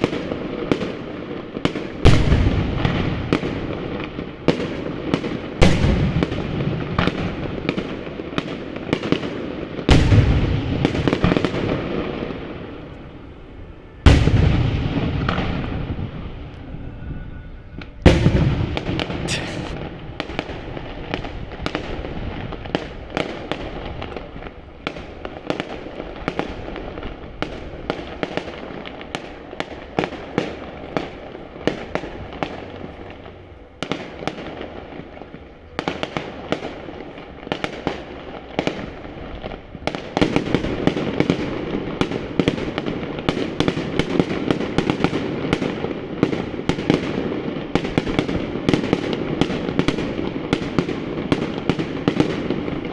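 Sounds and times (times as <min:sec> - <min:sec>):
fireworks banging and crackling: 0:00.0 - 0:17.2, 0:17.8 - 0:52.9.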